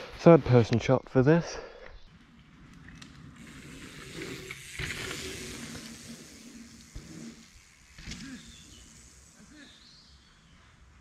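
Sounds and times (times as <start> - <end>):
bike tyres on dirt: 2.0 - 11.0.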